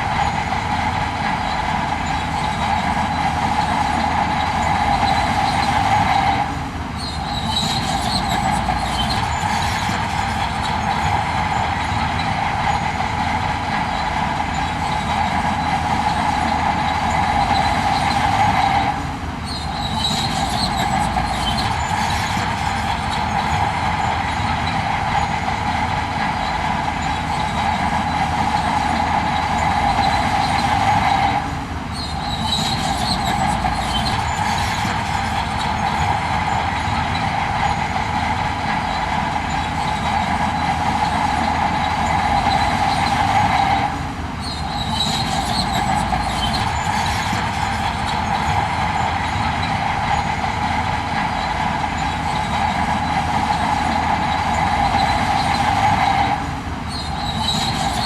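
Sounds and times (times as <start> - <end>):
engine whine: 0.0 - 58.0
heavy machinery engine drone: 0.0 - 58.0.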